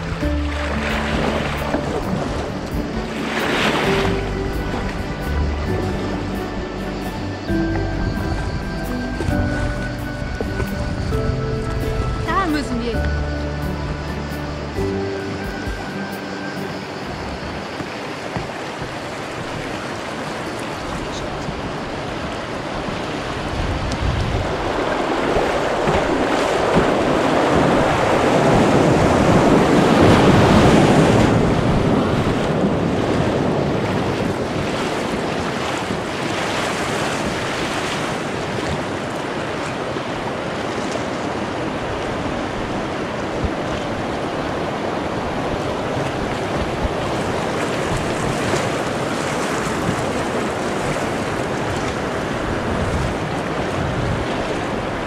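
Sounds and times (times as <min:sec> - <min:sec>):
river water rushing: 0:00.0 - 0:55.0
water splashing around kayak: 0:00.0 - 0:55.0
wind buffeting microphone: 0:00.0 - 0:55.0.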